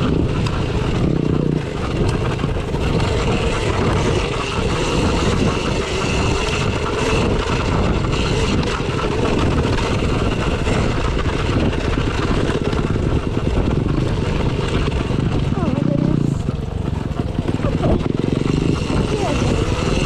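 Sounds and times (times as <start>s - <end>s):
dirt bike motor running: 0.0s - 20.0s
wind rush: 0.0s - 20.0s.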